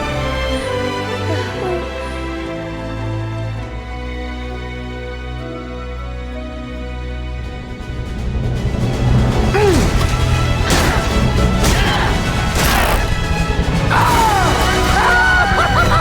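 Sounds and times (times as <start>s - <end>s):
film soundtrack music: 0.0s - 16.0s.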